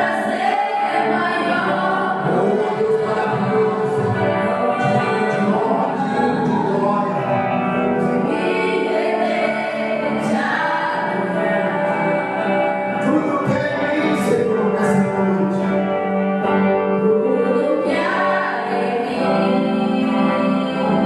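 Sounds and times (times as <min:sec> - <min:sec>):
backing music: 0:00.0 - 0:21.0
group singing a hymn: 0:00.0 - 0:21.0.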